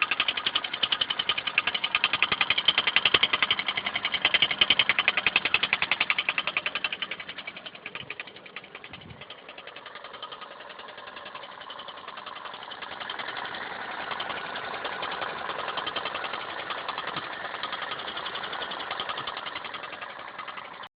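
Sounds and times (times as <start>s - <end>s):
engine idling with rapid knocking: 0.0s - 20.9s.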